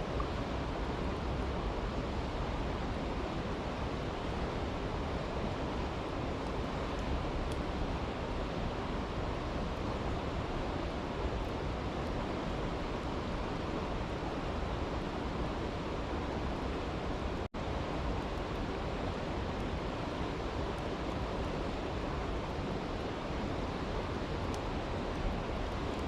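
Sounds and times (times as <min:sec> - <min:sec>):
campfire crackles: 0:00.1 - 0:26.0.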